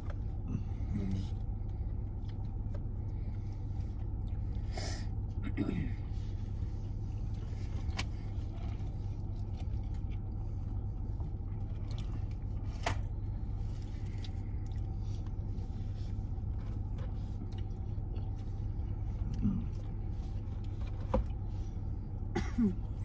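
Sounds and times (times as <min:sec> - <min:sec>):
car idling from inside cabin: 0:00.0 - 0:23.0.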